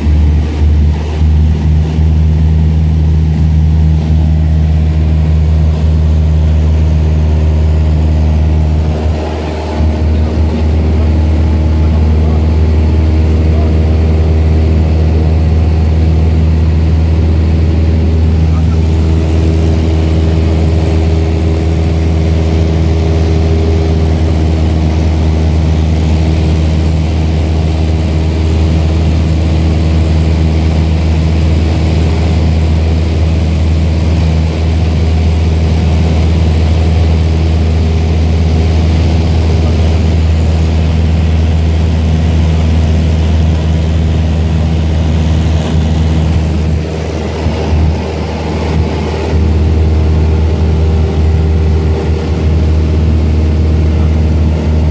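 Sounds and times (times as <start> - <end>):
propeller plane engine droning: 0.0 - 54.9.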